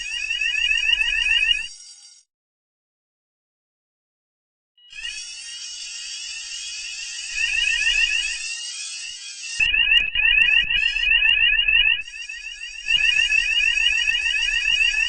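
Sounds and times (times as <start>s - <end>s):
fire alarm sweeping tone: 0.0s - 2.3s, 4.8s - 15.0s.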